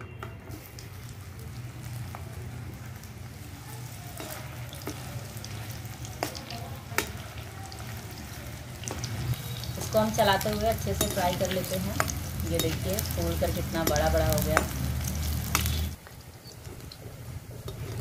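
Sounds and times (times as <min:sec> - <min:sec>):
food sizzling in oil: 0:00.4 - 0:18.0.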